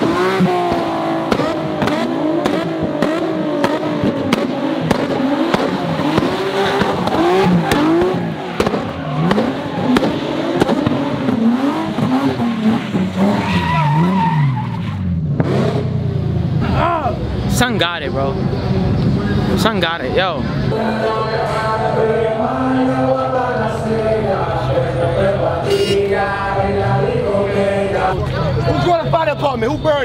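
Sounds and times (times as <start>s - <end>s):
car engine revving: 0.0s - 30.0s
tires squealing: 0.0s - 30.0s.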